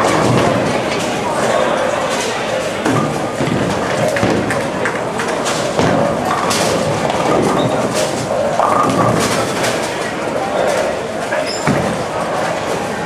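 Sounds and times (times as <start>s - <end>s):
bowling balls thudding: 0.0s - 12.5s
faint voices: 0.0s - 13.0s
hubbub: 0.0s - 13.0s.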